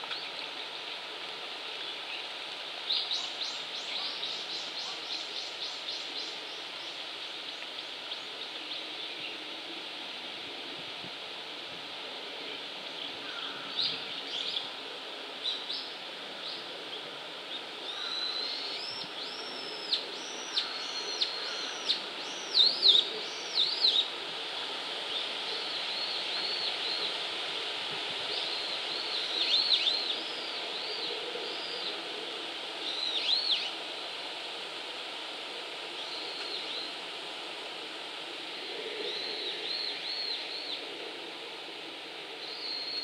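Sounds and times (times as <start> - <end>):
steady background hiss: 0.0 - 43.0.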